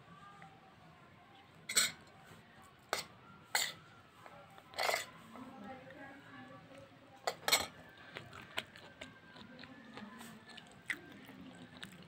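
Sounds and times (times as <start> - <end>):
faint low murmur: 0.0 - 12.0.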